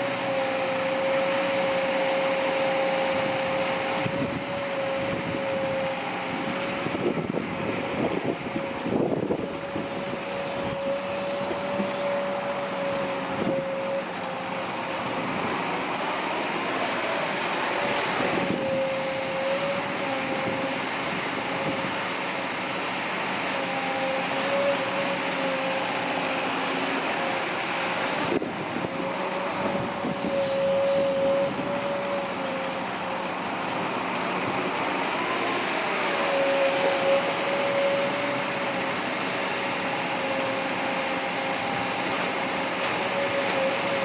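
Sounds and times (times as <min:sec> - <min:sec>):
excavator engine running: 0:00.0 - 0:44.0
high hydraulic whine: 0:00.0 - 0:44.0.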